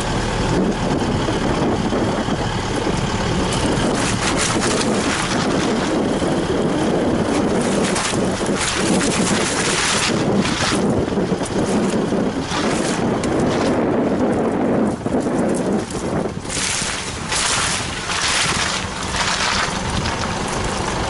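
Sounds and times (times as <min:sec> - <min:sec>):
tyres rushing through mud and water: 0:00.0 - 0:21.0
vehicle engine running: 0:00.0 - 0:21.0.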